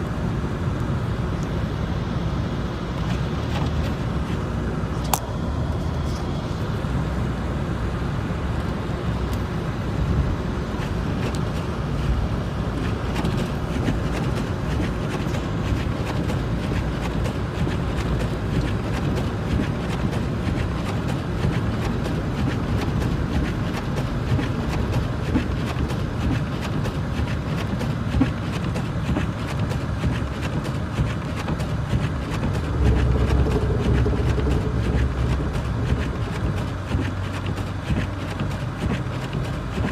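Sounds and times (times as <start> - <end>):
car driving on slushy road: 0.0 - 39.9.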